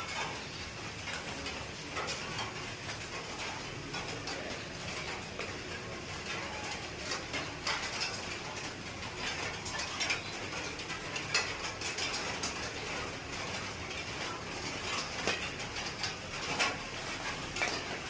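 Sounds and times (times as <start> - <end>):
light clicks and taps of items: 0.0 - 18.0.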